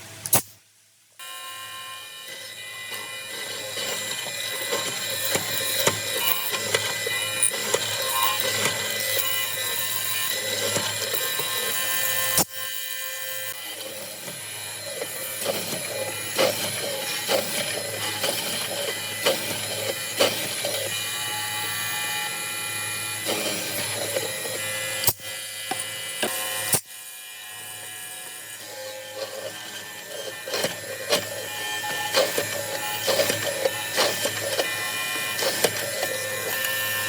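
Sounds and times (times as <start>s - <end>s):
power tool whining on wood: 1.2s - 37.0s.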